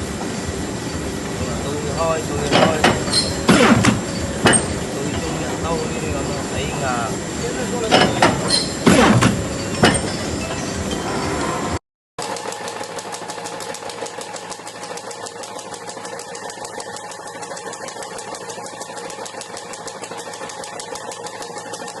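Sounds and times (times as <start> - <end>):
machine rapid even ticking: 0.0 - 11.0, 12.2 - 22.0
steady machine hum: 0.0 - 22.0.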